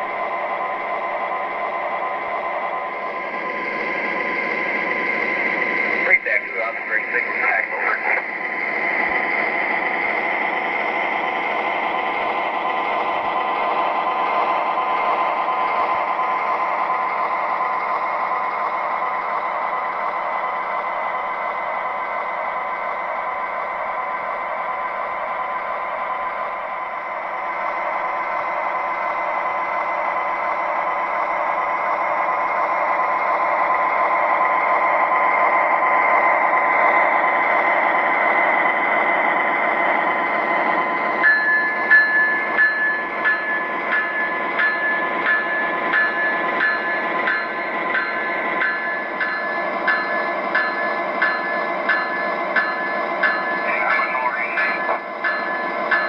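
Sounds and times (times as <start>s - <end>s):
diesel engine sound effect: 0.0s - 56.0s.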